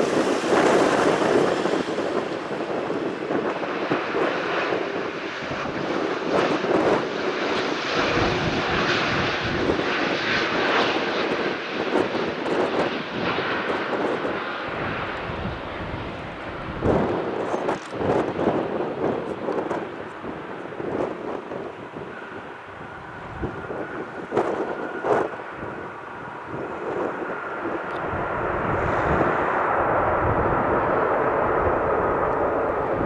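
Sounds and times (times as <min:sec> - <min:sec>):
jet airliner engine noise: 0:00.0 - 0:33.0.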